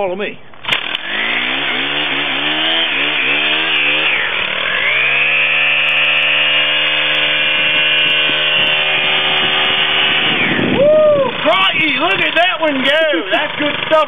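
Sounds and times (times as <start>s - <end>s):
hedge trimmer engine revving: 0.5s - 14.0s.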